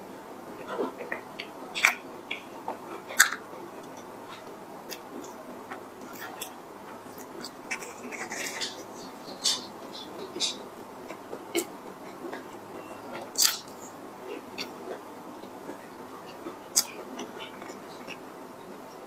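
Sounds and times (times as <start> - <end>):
crumbly crackles: 0.0 - 19.0.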